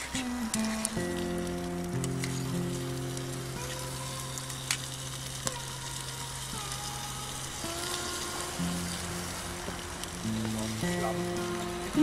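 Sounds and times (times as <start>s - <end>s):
crackling sizzle: 0.0s - 12.0s
music of long held notes: 0.0s - 12.0s.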